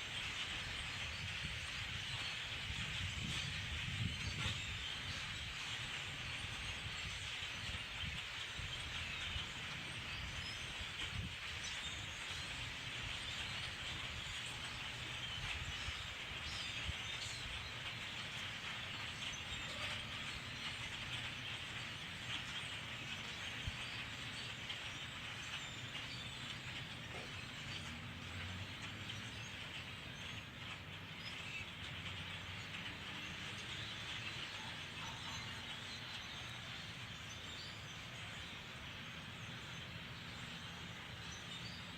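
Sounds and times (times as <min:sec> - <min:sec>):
flock of birds chirping: 0:00.0 - 0:41.9.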